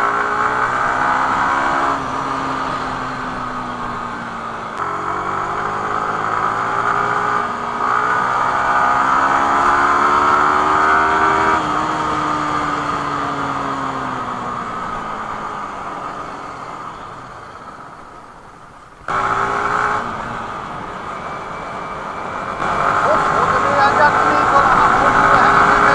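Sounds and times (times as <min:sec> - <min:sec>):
motorcycle engine accelerating: 0:00.0 - 0:18.2, 0:19.0 - 0:25.9.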